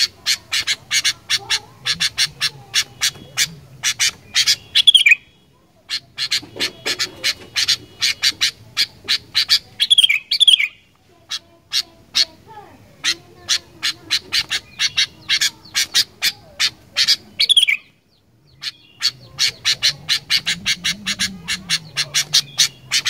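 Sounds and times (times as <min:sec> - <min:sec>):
bulbul calling sharp notes: 0:00.0 - 0:10.9, 0:13.0 - 0:23.0.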